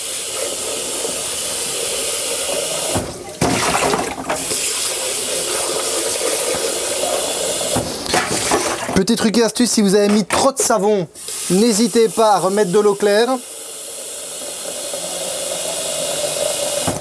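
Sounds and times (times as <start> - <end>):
tap water running into jar: 0.0 - 9.0, 10.0 - 17.0.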